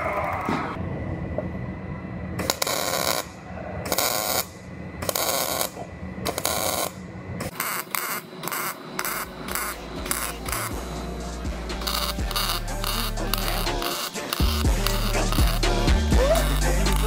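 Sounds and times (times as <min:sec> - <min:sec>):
mig welder crackling: 0:02.4 - 0:10.9, 0:11.7 - 0:17.0.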